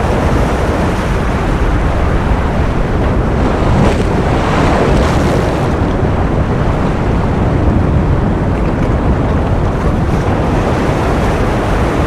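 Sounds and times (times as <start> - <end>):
ocean surf: 0.0 - 12.0.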